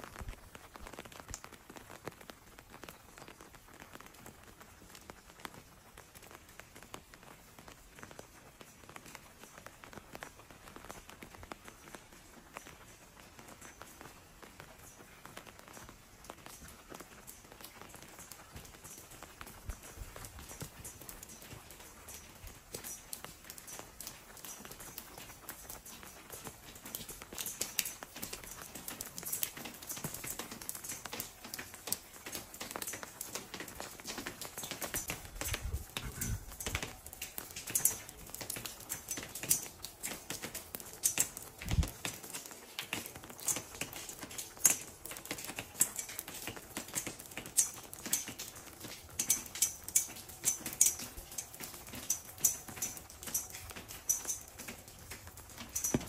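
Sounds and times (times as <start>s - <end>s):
footsteps on wet stone: 0.0s - 56.0s.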